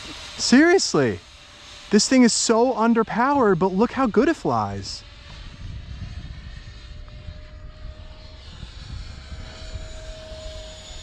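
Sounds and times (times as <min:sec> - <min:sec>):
model jet fan whine: 0:00.0 - 0:11.0.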